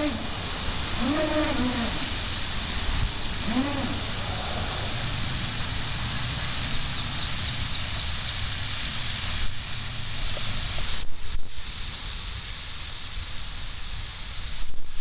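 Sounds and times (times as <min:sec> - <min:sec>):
fountain spray splashing: 0:00.0 - 0:14.5
wind rumbling on microphone: 0:00.0 - 0:15.0.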